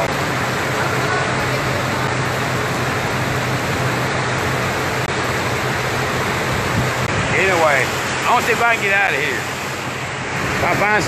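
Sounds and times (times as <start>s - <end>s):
heavy rain: 0.0s - 11.0s
vehicle engine idling: 0.0s - 11.0s.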